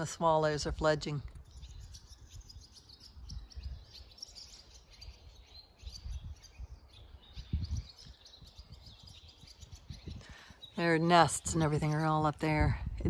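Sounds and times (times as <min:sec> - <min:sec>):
swallows twittering: 0:00.0 - 0:12.6.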